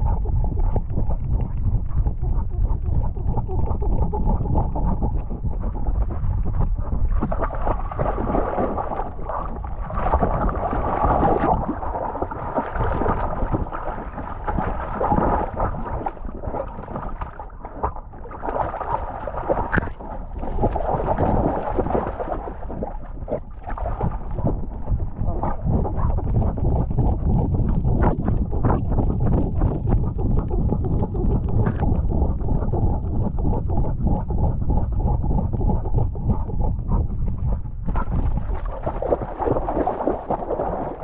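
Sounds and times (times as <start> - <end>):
water sloshing and splashing: 0.0 - 32.7, 37.8 - 41.0.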